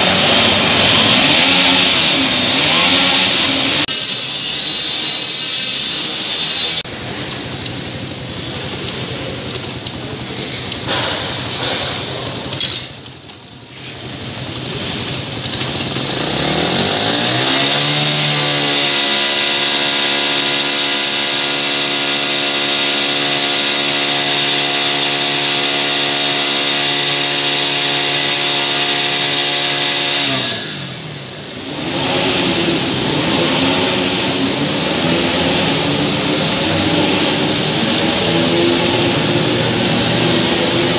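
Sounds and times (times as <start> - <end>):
motorcycle engine running: 0.0 - 40.9
workshop machine noise: 0.0 - 40.9.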